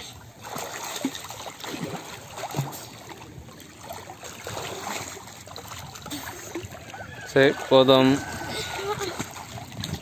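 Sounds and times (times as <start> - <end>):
floodwater splashing: 0.0 - 10.0
steady wash of water: 0.0 - 10.0.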